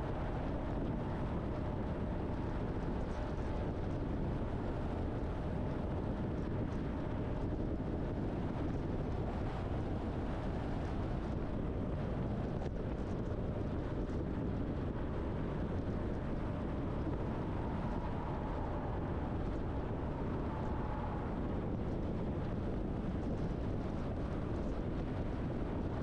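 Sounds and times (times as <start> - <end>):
truck engine and tyre rumble: 0.0 - 26.0.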